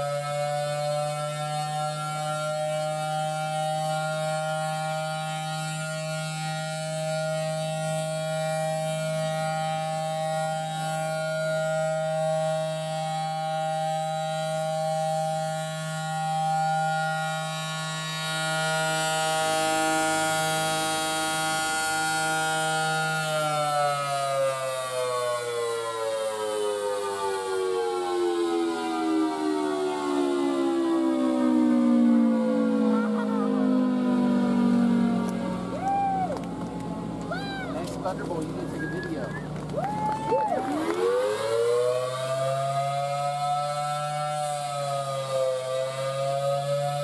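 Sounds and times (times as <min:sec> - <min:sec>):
siren howling: 0:00.0 - 0:47.0.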